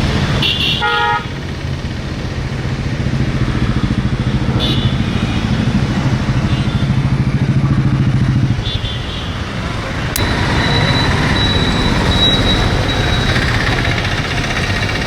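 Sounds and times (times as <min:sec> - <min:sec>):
engine running with pulsing beat: 0:00.0 - 0:08.8, 0:09.7 - 0:15.0.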